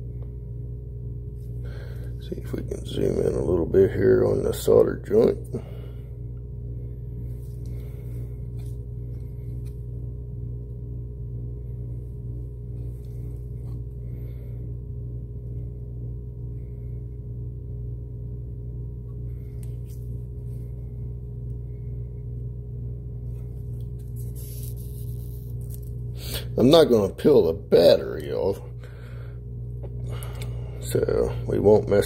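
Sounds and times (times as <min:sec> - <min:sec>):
low droning hum: 0:00.0 - 0:32.0.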